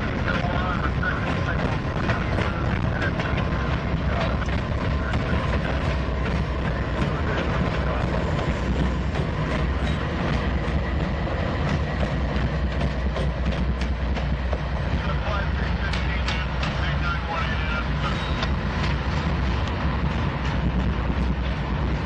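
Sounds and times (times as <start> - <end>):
locomotive engines rumbling: 0.0 - 22.0
train wheels clicking over rail joints: 0.0 - 22.0.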